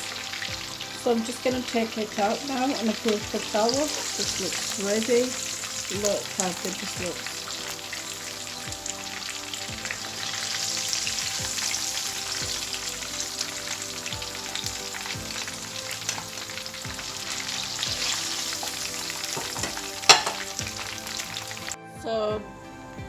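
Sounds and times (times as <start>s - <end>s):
chicken sizzling in hot oil: 0.0s - 21.8s.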